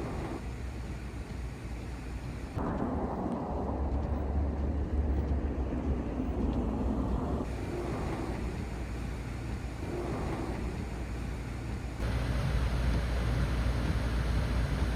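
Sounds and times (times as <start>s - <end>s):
street rumble: 0.0s - 14.9s.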